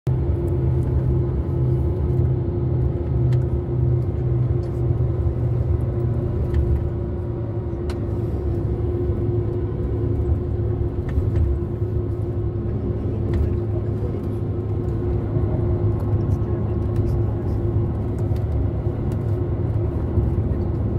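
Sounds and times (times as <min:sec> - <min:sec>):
vehicle engine and road rumble: 0:00.0 - 0:20.9.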